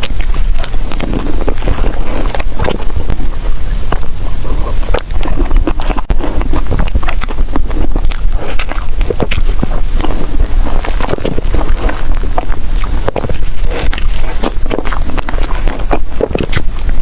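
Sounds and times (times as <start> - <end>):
low microphone rumble: 0.0 - 17.0
mouth smacks: 0.0 - 17.0
wet chewing mouth clicks: 0.0 - 17.0.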